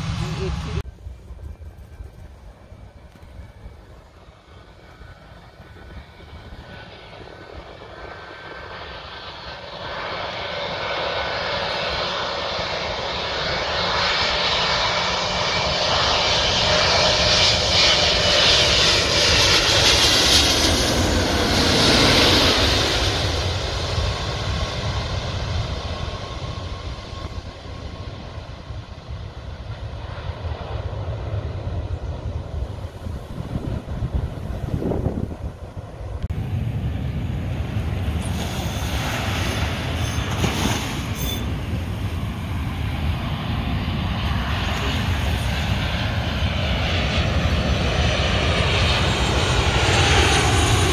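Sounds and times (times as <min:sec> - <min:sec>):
wind rumble on microphone: 0:00.0 - 0:12.8, 0:20.9 - 0:50.0
jet engines on landing approach: 0:00.0 - 0:50.9.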